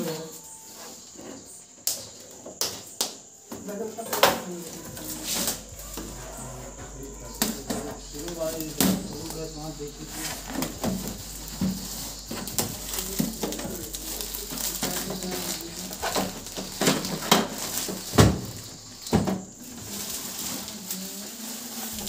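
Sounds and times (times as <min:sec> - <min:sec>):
plastic wrap crinkling: 0:04.0 - 0:22.0.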